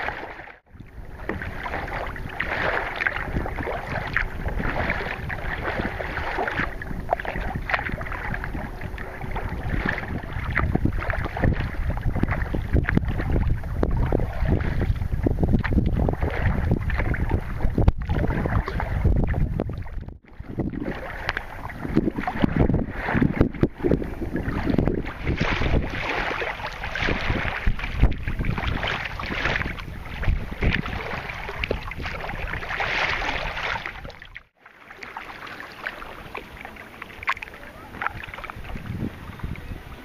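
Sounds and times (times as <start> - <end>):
choppy water splashing: 0.0 - 40.0
wind buffeting the microphone: 0.7 - 34.4, 35.9 - 40.0.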